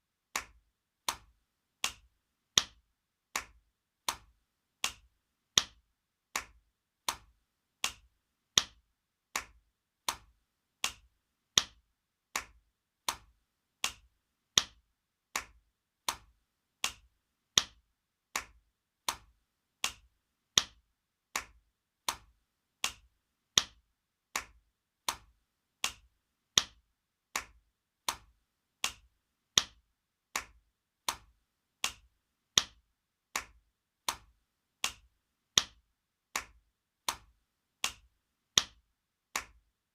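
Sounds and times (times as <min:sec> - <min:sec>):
hand slapping skin: 0:00.4 - 0:39.6.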